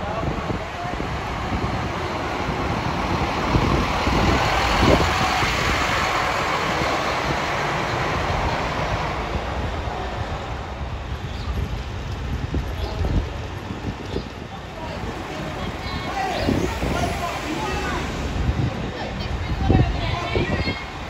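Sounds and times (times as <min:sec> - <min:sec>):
bus engine and tyre noise: 0:00.0 - 0:21.0.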